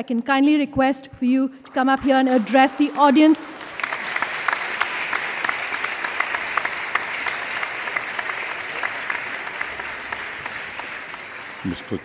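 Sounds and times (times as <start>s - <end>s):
audience applauding: 1.7s - 12.0s.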